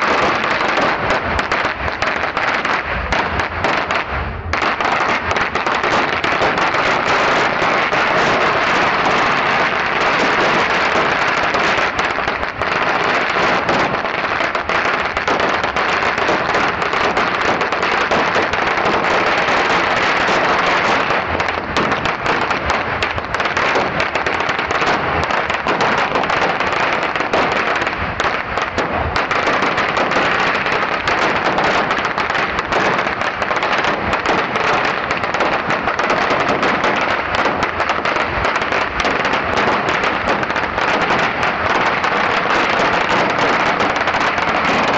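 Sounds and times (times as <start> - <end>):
firecrackers crackling: 0.0 - 44.9.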